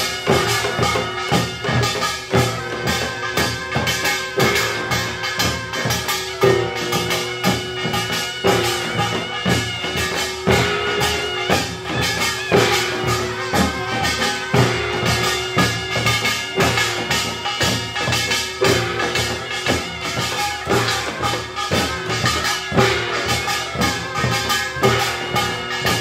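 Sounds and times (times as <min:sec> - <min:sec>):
percussion ensemble drumming: 0:00.0 - 0:26.0
ringing gong strokes: 0:00.0 - 0:26.0.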